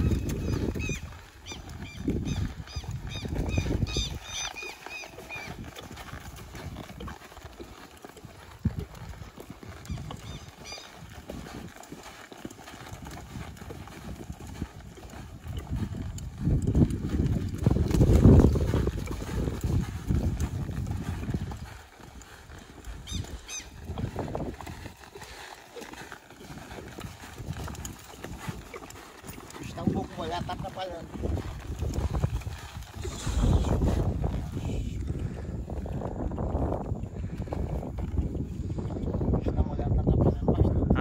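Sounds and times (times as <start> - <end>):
horse hoofbeats thudding: 0.0 - 40.2.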